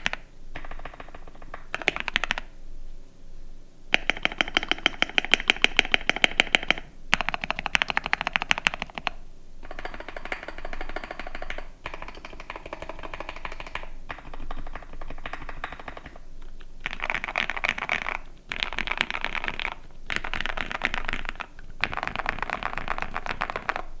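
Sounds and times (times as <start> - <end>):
mechanical keyboard typing: 0.0 - 2.5, 3.9 - 24.0.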